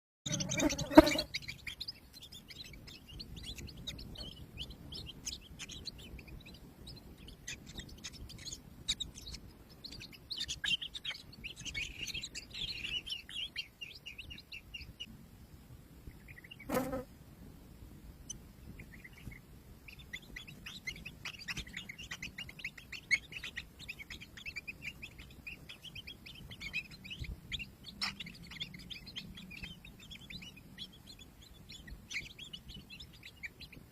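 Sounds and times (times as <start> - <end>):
nestlings buzzy chirping: 0.3 - 15.1, 16.1 - 17.1, 18.2 - 33.9.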